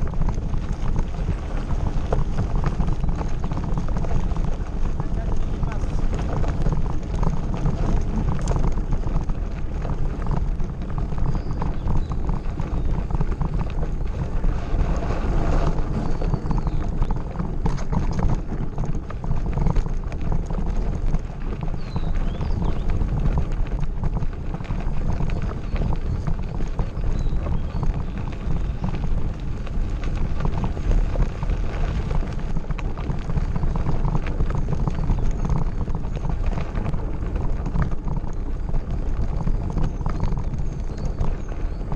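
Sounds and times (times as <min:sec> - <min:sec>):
bike rattling over gravel: 0:00.0 - 0:41.9
wind on microphone: 0:00.0 - 0:41.9.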